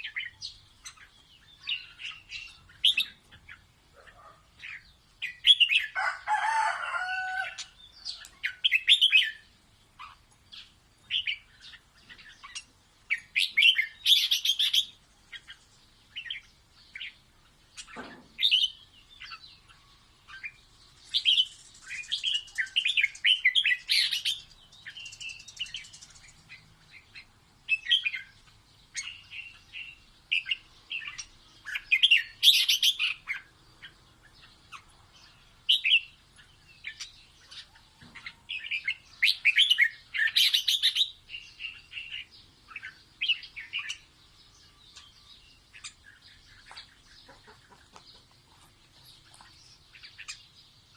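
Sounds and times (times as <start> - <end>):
bird singing chirpy phrases: 0.0 - 50.9.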